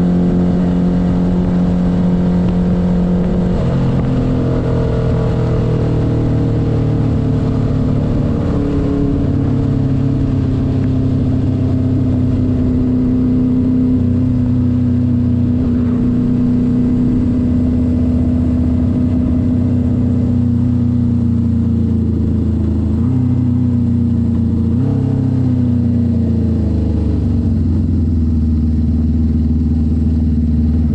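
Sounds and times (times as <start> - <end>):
motorcycle engine cruising: 0.0 - 30.9.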